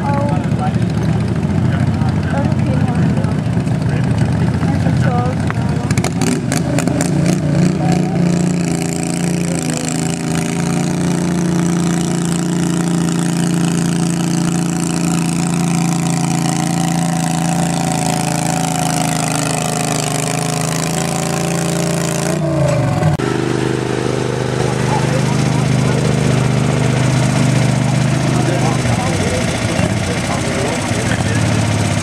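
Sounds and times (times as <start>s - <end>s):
garden tractor engine under load: 0.0s - 32.0s.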